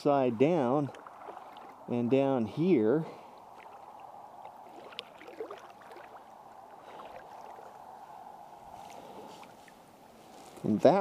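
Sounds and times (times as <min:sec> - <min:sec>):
water moving along hull: 0:00.0 - 0:10.3
paddle strokes: 0:00.5 - 0:02.1, 0:03.0 - 0:10.8.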